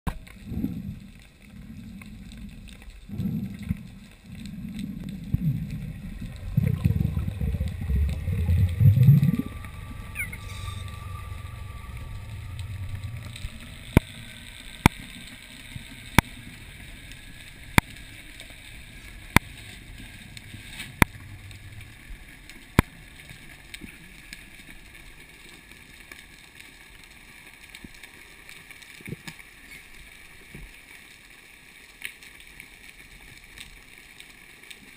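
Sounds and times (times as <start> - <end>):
faint steady hiss: 0.1 - 34.9
underwater rushing and gurgling: 0.1 - 34.9.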